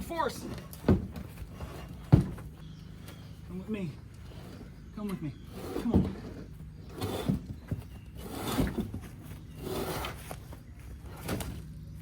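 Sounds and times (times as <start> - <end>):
suspension creaking and rubbing: 0.0 - 2.6, 4.1 - 11.7.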